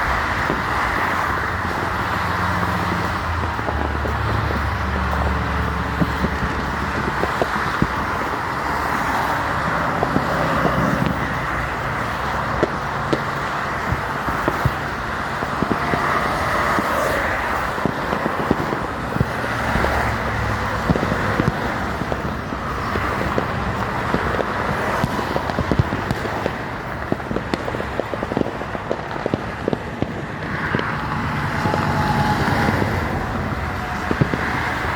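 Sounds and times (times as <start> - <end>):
fireworks pops and crackles: 0.0 - 34.9
freeway traffic roar: 0.0 - 34.9.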